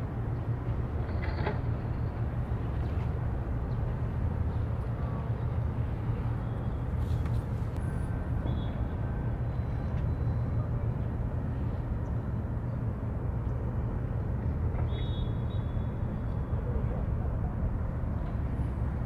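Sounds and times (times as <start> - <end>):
ship engine droning: 0.0 - 19.0.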